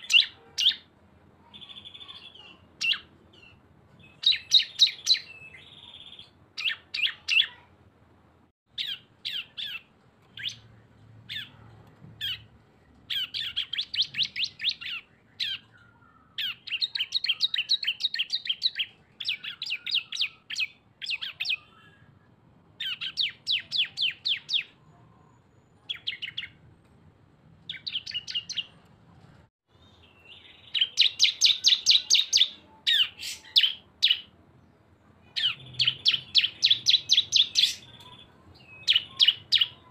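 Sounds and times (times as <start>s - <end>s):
birds singing fast trills: 0.0s - 7.7s, 8.7s - 11.6s, 12.2s - 12.5s, 13.1s - 22.2s, 22.8s - 26.6s, 27.7s - 28.8s, 29.7s - 39.9s.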